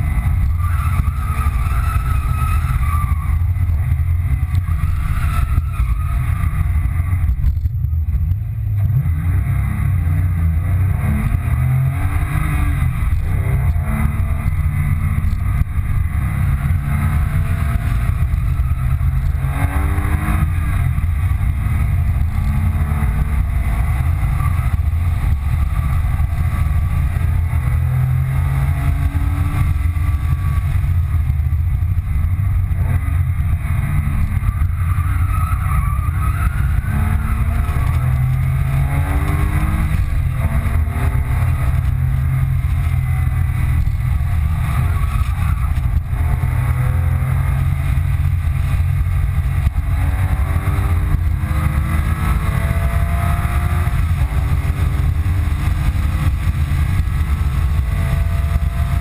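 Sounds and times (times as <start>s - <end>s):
car engine revving in cabin: 0.0s - 59.0s.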